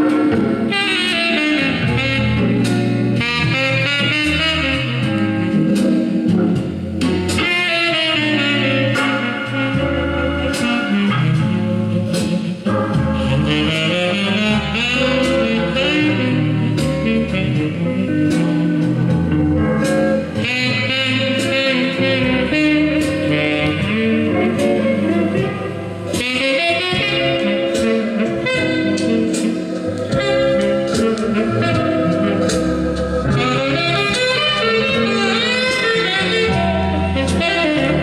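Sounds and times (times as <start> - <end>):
music from a vinyl record: 0.0 - 38.0.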